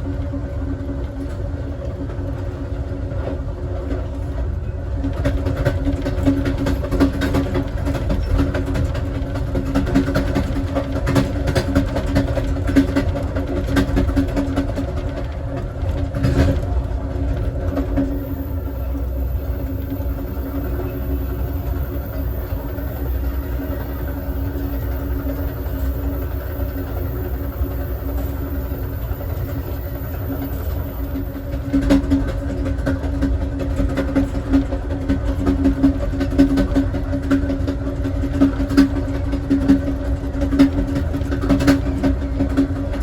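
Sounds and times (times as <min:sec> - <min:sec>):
train wheels rumbling on rail: 0:00.0 - 0:43.0
wheels clacking on rail: 0:00.0 - 0:43.0.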